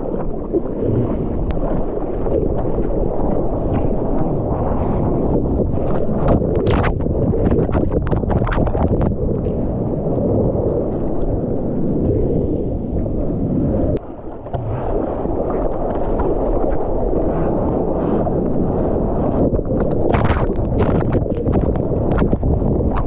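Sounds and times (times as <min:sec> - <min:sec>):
muffled underwater rush: 0:00.0 - 0:23.0
waves sloshing and splashing: 0:00.0 - 0:23.0.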